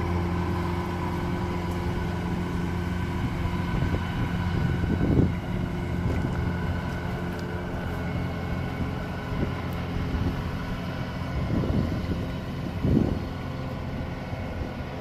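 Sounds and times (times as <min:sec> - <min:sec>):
combine harvester engine drone: 0:00.0 - 0:15.0
wind buffeting microphone: 0:00.0 - 0:15.0.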